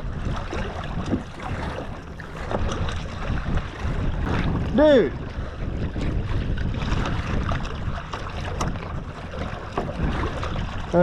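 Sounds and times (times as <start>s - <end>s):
water sloshing: 0.0s - 11.0s
wind buffeting microphone: 0.0s - 11.0s.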